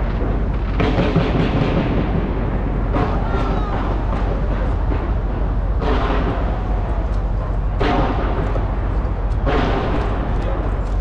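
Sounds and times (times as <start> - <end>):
crackling firework bursts: 0.0 - 11.0
fireworks rumbling detonations: 0.0 - 11.0.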